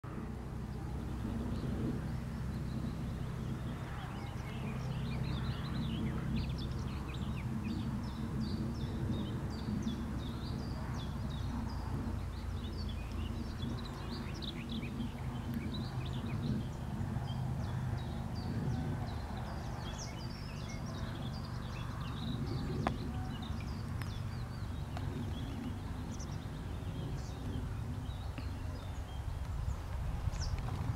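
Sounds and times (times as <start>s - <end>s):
small birds chirping: 0.0s - 30.9s
steady low rumble: 0.0s - 30.9s.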